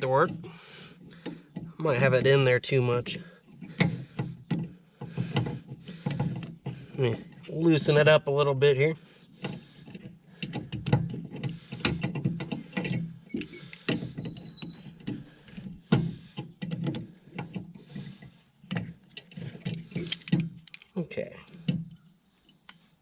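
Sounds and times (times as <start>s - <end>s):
crickets chirping: 0.0s - 23.0s
hands working on metal parts: 1.1s - 8.0s, 9.4s - 22.9s.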